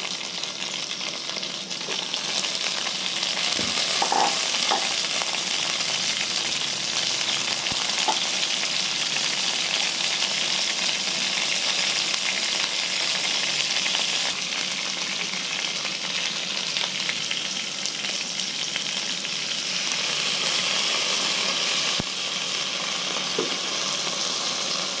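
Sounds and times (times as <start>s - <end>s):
hot oil sizzling: 0.0s - 25.0s.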